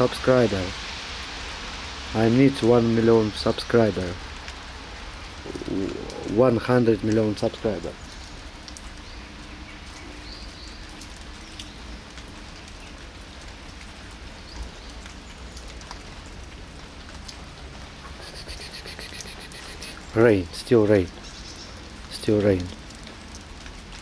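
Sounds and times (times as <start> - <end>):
rain on wet asphalt: 0.0 - 24.0.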